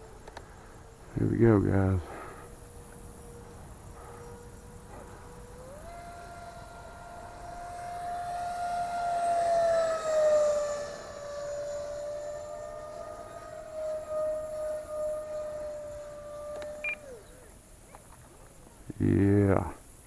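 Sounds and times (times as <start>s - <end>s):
electric ducted fan whining: 0.0s - 20.0s.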